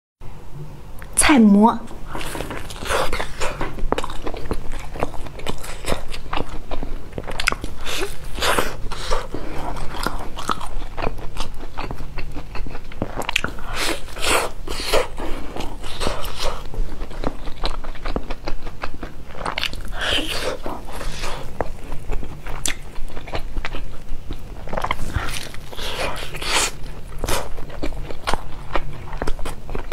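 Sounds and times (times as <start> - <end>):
chewing crisp flatbread: 2.0 - 29.9.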